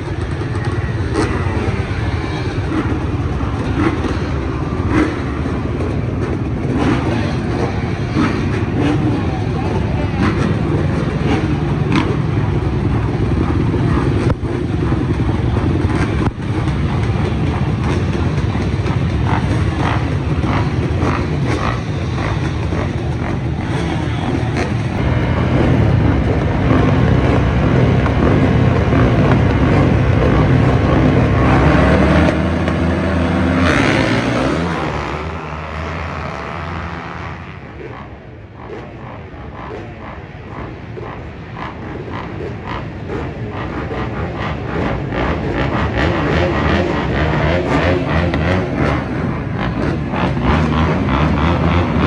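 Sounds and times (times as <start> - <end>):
off-road race engines revving: 0.0 - 52.0.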